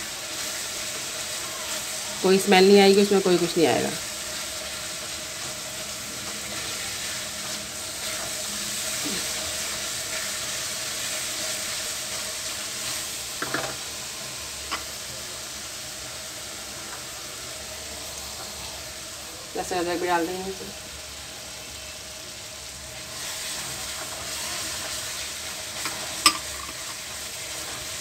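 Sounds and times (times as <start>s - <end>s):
sauce sizzling in hot oil: 0.0s - 28.0s.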